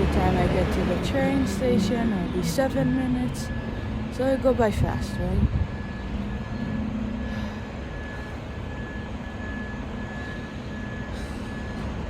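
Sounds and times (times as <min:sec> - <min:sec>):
traffic engine rumble: 0:00.0 - 0:12.0
faint high beep: 0:01.2 - 0:12.0.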